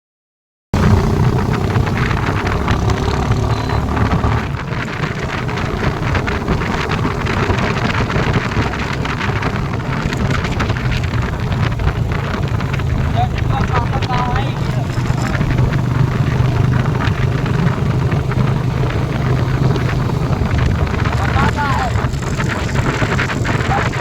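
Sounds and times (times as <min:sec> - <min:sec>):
motorcycle engine thumping exhaust: 0:00.8 - 0:24.0.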